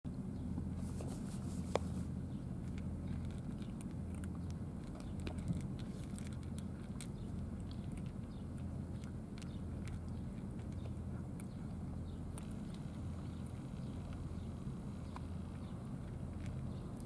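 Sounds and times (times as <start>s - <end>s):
steady low hum: 0.1s - 17.0s
cats chewing and licking: 0.2s - 17.0s.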